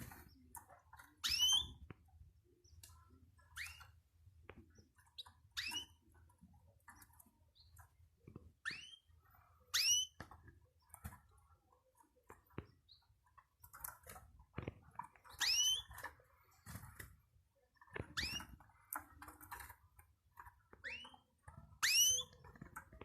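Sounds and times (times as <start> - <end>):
soft bird chirps and clicks: 0.0 - 23.0.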